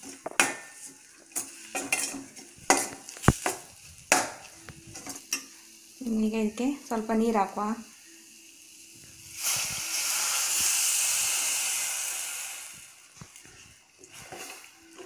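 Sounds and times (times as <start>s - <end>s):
water sizzling in hot pan: 0.0s - 15.0s.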